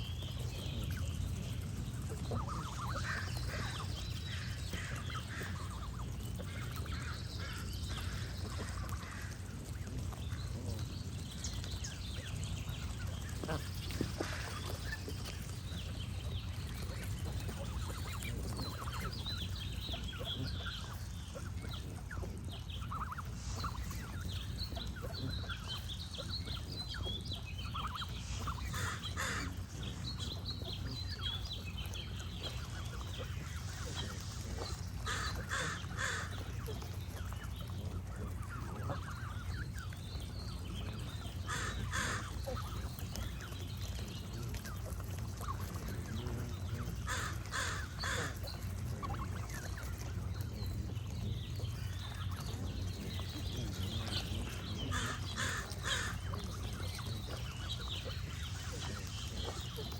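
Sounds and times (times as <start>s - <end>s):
songbirds chirping: 0.0s - 59.9s
geese honking: 1.4s - 10.9s, 16.8s - 40.0s, 40.9s - 43.0s, 44.6s - 50.2s, 51.8s - 59.9s.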